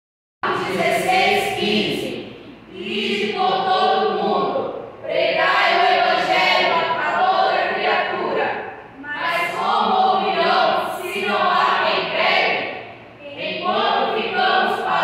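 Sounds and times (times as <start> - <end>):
voices speaking in unison: 0.5 - 15.0.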